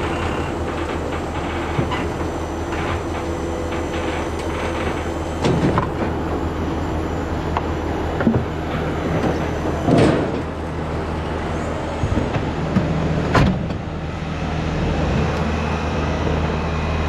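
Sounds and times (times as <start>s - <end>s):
loud rattling clatter: 0.0s - 13.7s
clunks and rattles: 0.0s - 13.9s
vehicle engine droning: 0.0s - 17.0s.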